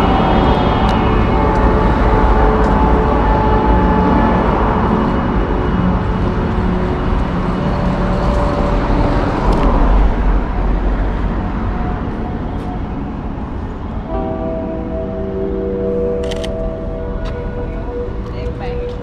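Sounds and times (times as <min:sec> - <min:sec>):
background music: 0:00.0 - 0:19.0
cars passing on road: 0:00.0 - 0:19.0.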